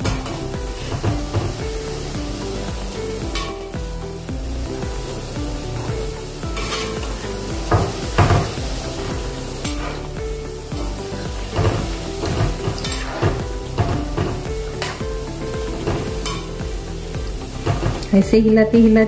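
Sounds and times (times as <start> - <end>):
spoon knocking and scraping pan: 0.0 - 18.1
dough sizzling in hot oil: 0.0 - 18.3
background music: 0.0 - 19.0.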